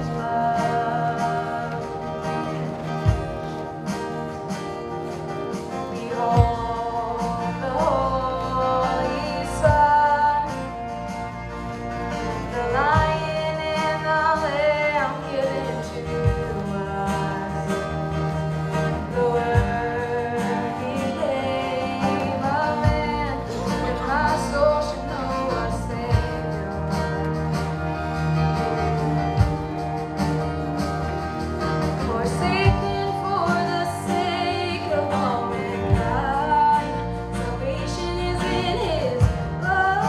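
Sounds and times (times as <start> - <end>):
person singing into microphone: 0.0 - 30.7, 31.3 - 40.0
guitar: 0.0 - 40.0
keyboards: 0.0 - 40.0.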